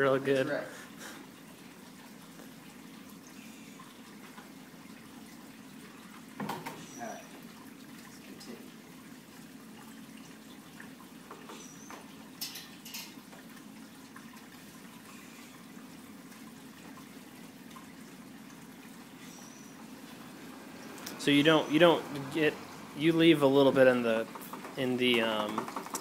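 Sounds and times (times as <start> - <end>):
liquid trickling through tube: 0.3 - 26.0.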